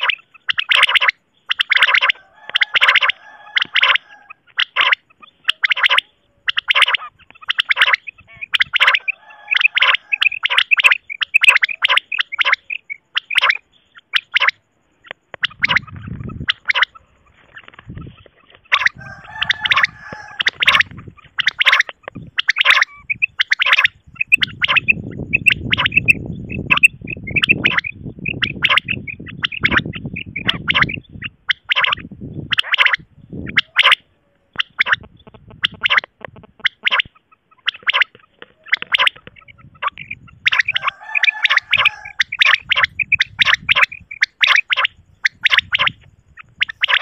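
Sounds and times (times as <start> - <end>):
quail chirping: 0.0 - 47.0.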